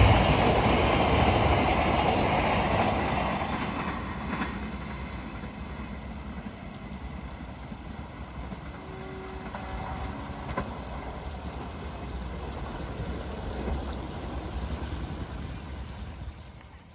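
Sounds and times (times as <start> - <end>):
distant train rumbling: 0.0 - 16.9.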